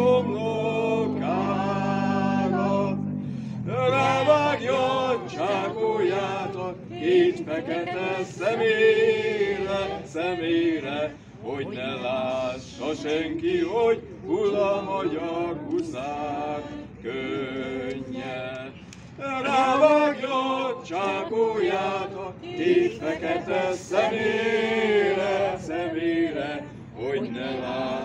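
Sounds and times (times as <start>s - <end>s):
man singing unaccompanied folk song: 0.0s - 3.1s, 3.7s - 28.0s.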